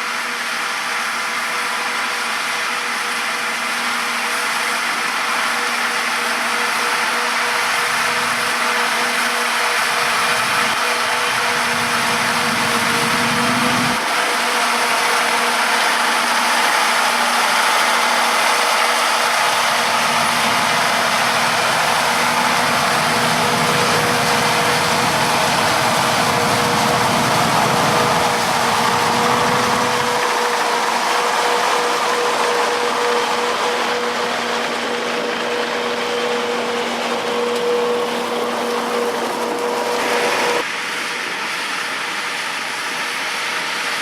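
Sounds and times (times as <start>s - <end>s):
harvesting machinery whining: 0.0s - 44.0s
tractor engine: 0.0s - 44.0s.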